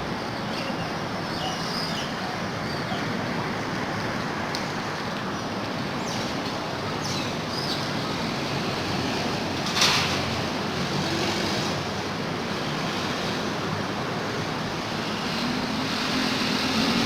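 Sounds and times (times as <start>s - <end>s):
road traffic noise: 0.0s - 17.0s
rush of noise: 0.0s - 17.0s.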